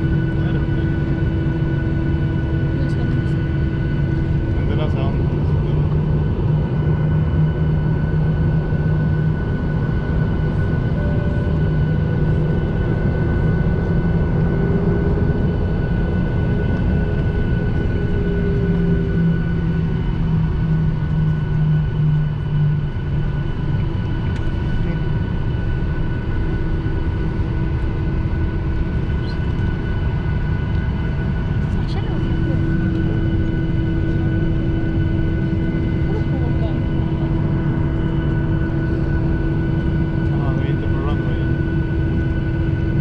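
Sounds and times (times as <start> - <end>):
airliner engines running: 0.0 - 43.0.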